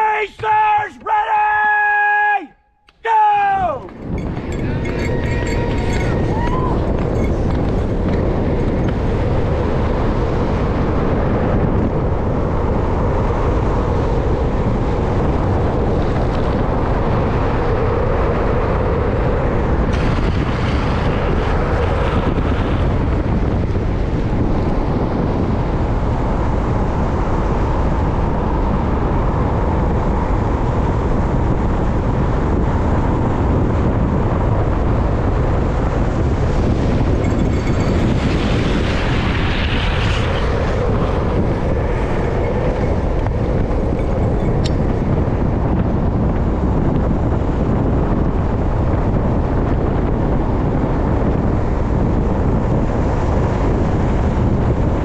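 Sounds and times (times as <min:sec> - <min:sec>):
wind buffeting microphone: 0:03.4 - 0:55.0
skateboard wheels rolling on asphalt: 0:03.8 - 0:55.0.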